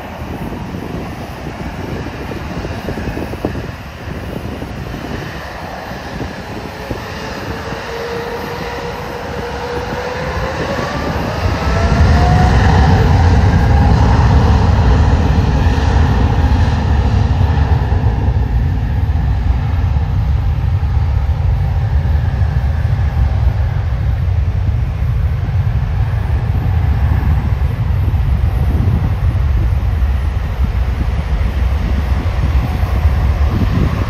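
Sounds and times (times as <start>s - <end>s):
jet engines spooling up: 0.0s - 34.0s.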